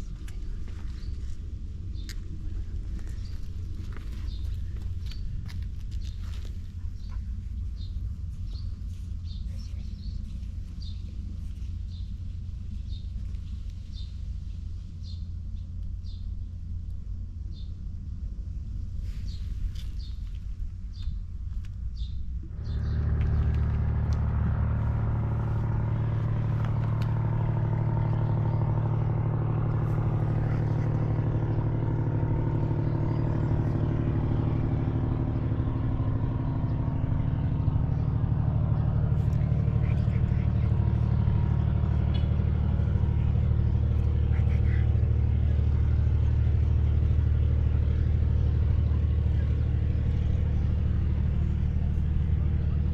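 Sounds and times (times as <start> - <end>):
engine humming: 0.0 - 52.9.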